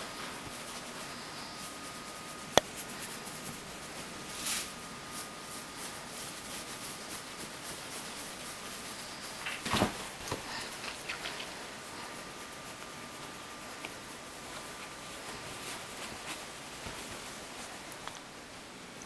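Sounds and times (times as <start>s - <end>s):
faint steady whine: 0.0s - 19.0s
room hiss: 0.0s - 19.0s.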